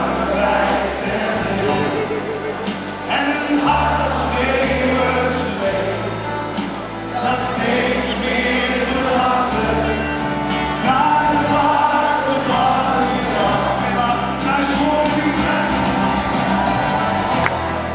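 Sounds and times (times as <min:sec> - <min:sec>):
acoustic band music: 0:00.0 - 0:17.9
person singing: 0:00.0 - 0:17.9.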